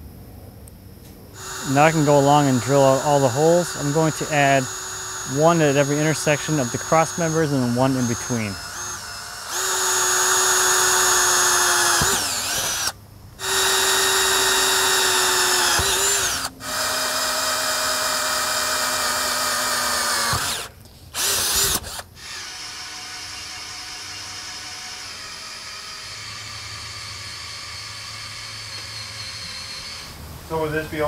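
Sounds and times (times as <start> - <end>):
cordless drill boring steel: 1.4 - 30.8.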